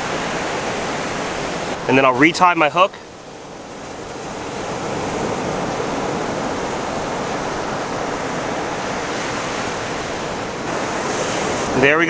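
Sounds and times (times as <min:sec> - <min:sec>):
ocean surf washing on beach: 0:00.0 - 0:12.0.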